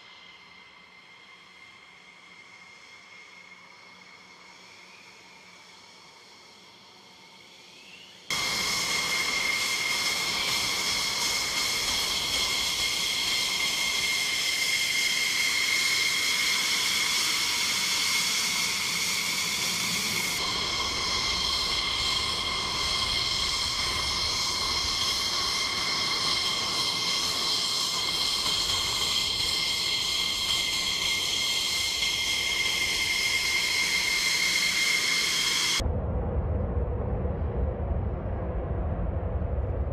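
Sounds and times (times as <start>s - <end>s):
jet engines idling whine: 0.0s - 35.8s.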